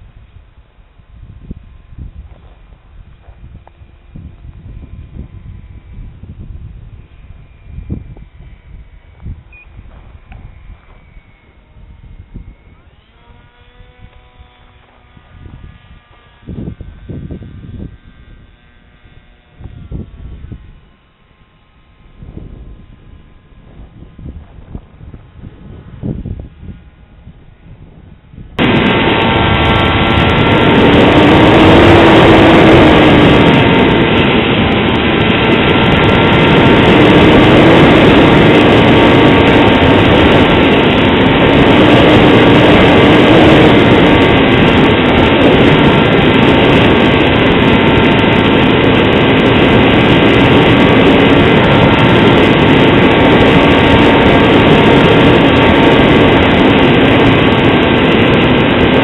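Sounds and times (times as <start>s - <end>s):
model plane motor and propeller: 0.0s - 59.0s
wind rush on microphone: 0.0s - 59.0s.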